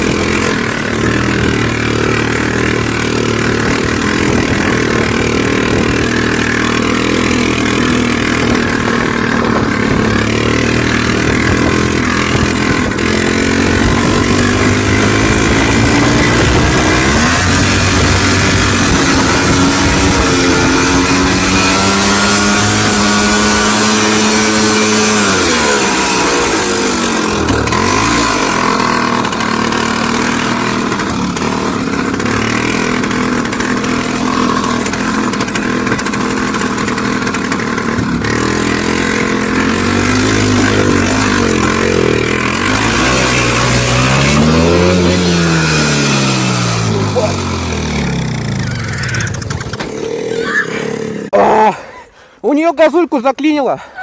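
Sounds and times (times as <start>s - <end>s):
two-stroke motorcycle engine: 0.0s - 54.0s.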